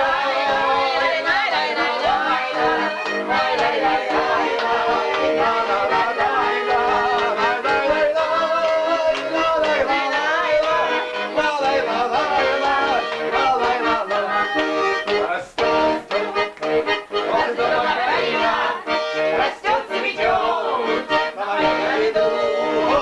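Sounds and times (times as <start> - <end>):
accordion playing lively melody: 0.0 - 23.0.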